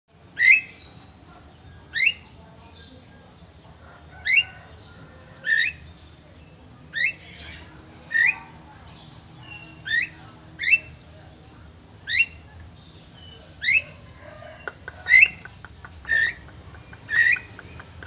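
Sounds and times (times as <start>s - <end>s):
faint bird chatter: 0.1s - 18.0s.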